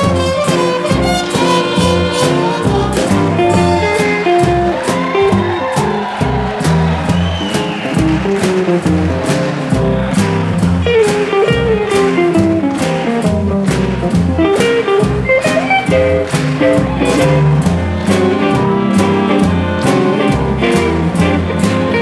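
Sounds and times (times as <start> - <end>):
swing jazz over loudspeakers: 0.0 - 22.0.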